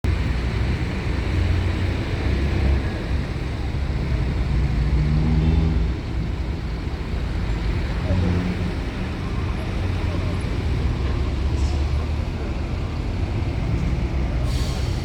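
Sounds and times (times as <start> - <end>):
heavy vehicle engines rumbling: 0.0 - 15.0.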